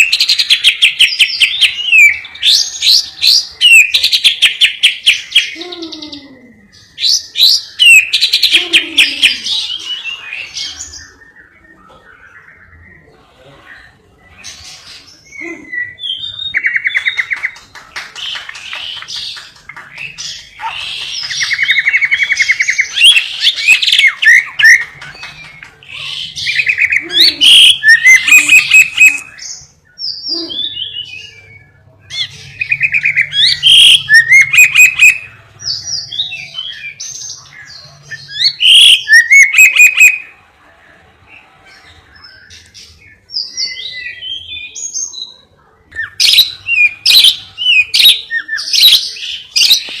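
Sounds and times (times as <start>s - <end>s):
songbird singing trills and chirps: 0.0s - 40.4s, 42.0s - 50.0s.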